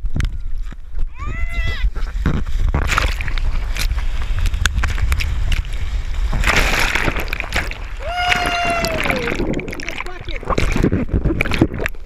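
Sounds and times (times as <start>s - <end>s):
surf breaking and splashing: 0.0s - 12.0s.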